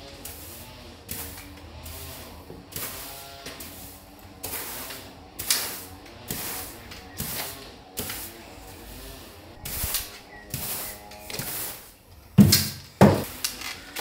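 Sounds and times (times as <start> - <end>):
broom scraping gritty mortar: 0.0 - 14.0.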